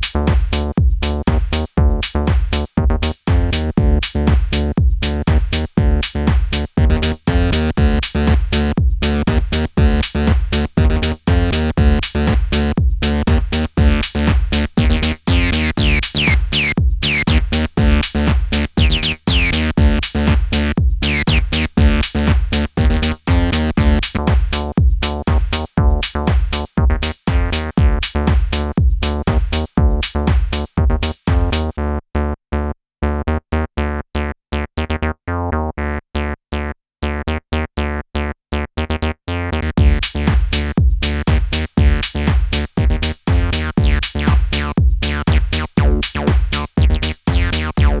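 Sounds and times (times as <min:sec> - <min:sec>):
electronic drum beat: 0:00.0 - 0:31.7, 0:39.8 - 0:48.0
squelchy acid synth bassline: 0:00.0 - 0:48.0.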